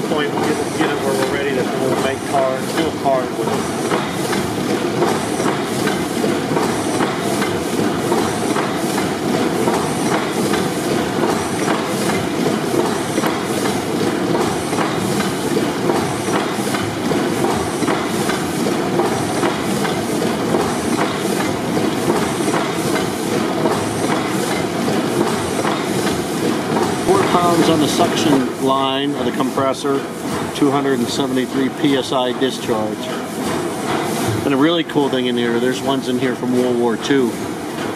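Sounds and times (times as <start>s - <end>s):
gas compressor engine clattering: 0.0s - 37.9s.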